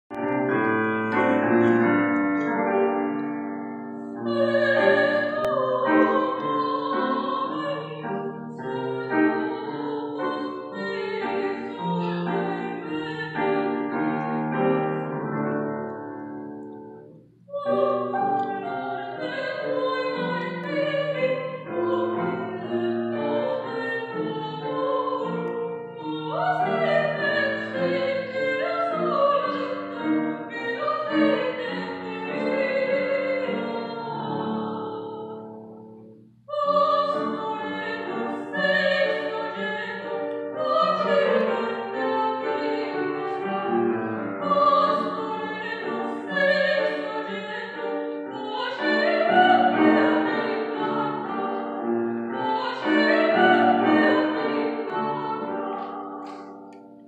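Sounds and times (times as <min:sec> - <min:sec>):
grand piano: 0:00.0 - 0:57.0
woman singing opera: 0:04.2 - 0:14.1, 0:17.5 - 0:35.6, 0:36.5 - 0:56.5.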